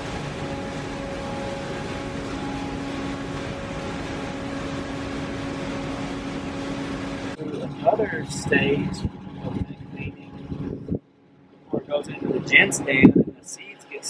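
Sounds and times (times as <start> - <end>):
low hum: 0.0 - 14.0
machinery droning: 0.0 - 14.0.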